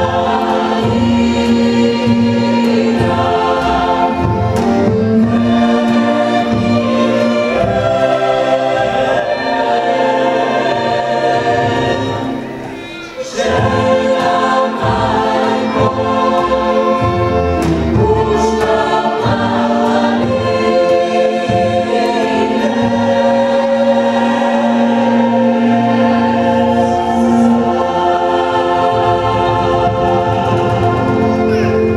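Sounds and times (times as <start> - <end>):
folk band with violins and guitars: 0.0 - 31.9
mixed choir singing: 0.0 - 31.9.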